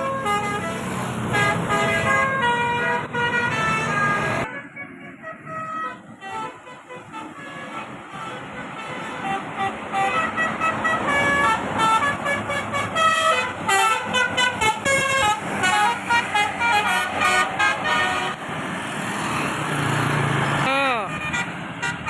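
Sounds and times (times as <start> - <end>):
multi-tone bus horn tune: 0.0 - 18.5, 20.6 - 22.0
bus engine: 0.0 - 22.0.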